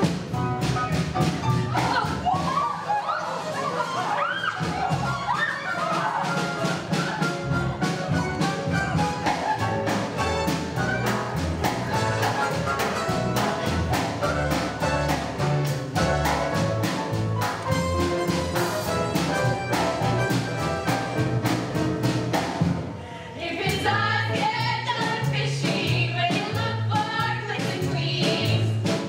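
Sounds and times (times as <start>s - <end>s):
upbeat orchestral music with brass: 0.0s - 22.9s, 25.9s - 29.0s.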